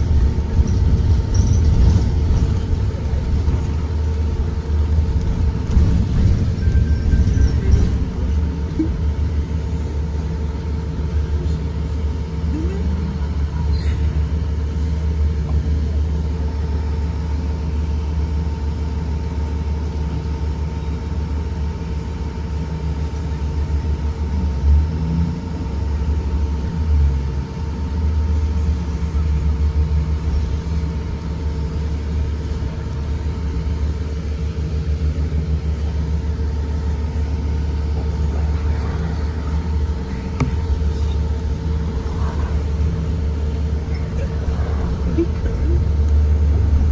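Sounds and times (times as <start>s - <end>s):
steady whine: 0.0s - 24.8s, 25.4s - 46.9s
bus engine rumble: 0.0s - 46.9s.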